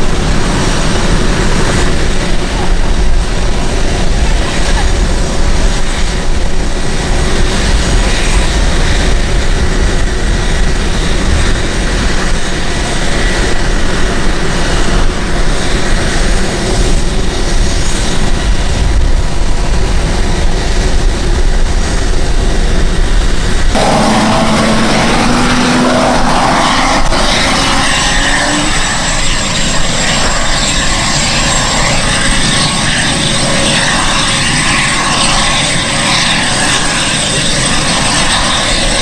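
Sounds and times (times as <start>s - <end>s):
faint high whine: 0.0s - 39.0s
jet engines idling: 0.0s - 39.0s.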